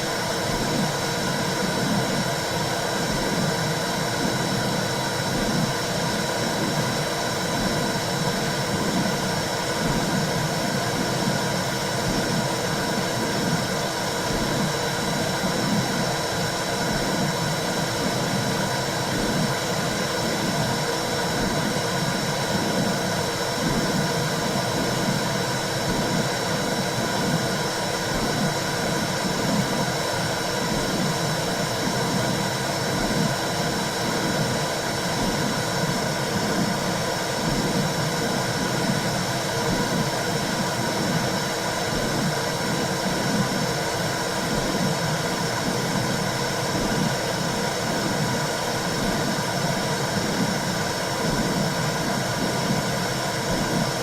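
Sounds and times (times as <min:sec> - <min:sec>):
low rhythmic whooshing: 0:00.0 - 0:54.0.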